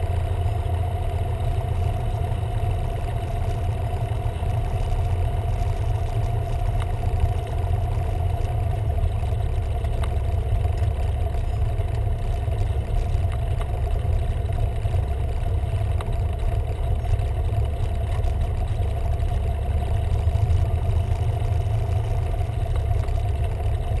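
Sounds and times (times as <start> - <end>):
aircraft engine idling: 0.0 - 24.0.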